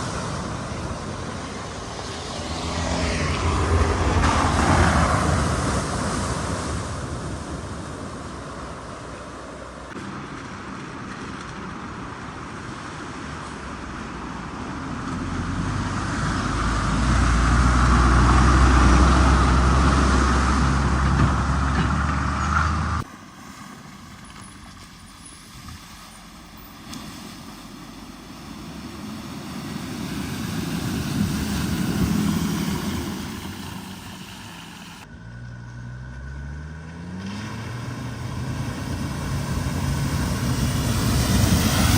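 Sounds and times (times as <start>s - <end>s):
quieter vehicle passing: 0.0s - 9.9s, 14.9s - 24.2s, 24.8s - 41.9s
vehicle engine hum: 0.0s - 41.9s.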